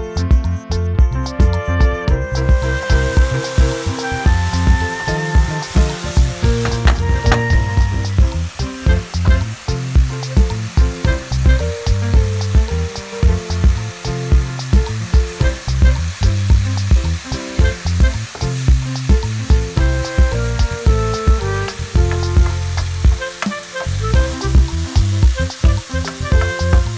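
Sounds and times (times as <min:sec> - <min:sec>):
background music with steady beat: 0:00.0 - 0:26.9
food sizzling in oil: 0:02.3 - 0:26.9.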